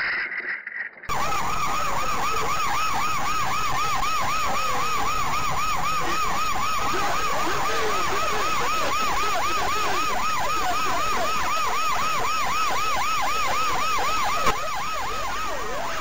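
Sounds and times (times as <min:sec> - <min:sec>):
police car siren: 0:01.1 - 0:16.0.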